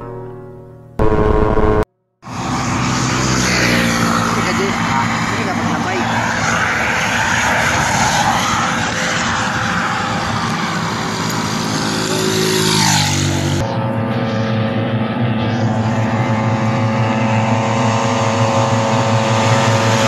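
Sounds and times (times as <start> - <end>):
steady engine hum: 1.0 - 20.0
motorcycles racing past: 2.3 - 20.0.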